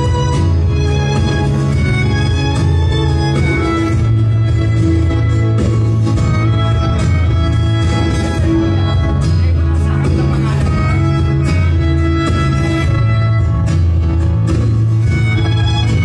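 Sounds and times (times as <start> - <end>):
instrumental backing music: 0.0 - 16.0.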